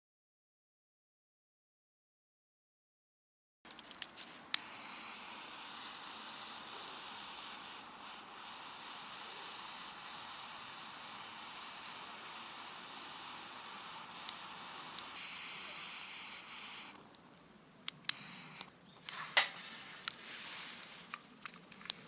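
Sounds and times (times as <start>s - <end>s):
wood fire hissing: 4.0s - 22.0s.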